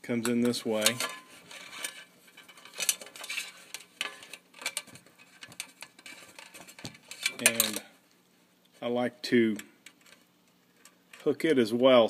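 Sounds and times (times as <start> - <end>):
wire clicking and scraping on metal: 0.0 - 8.8, 9.5 - 11.4.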